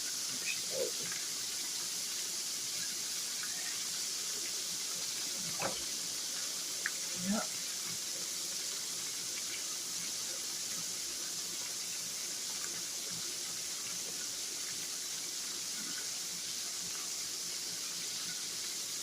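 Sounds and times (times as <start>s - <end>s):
liver sizzling in oil: 0.0s - 19.0s.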